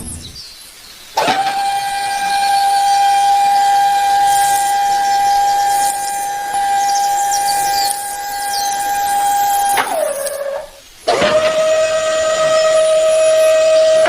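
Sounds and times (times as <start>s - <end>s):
small electric motor whining: 0.0s - 0.4s, 1.2s - 14.0s.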